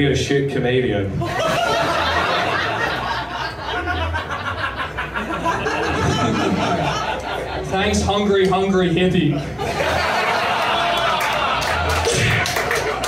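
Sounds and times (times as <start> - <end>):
audience laughing: 1.2 - 8.0, 9.3 - 13.0.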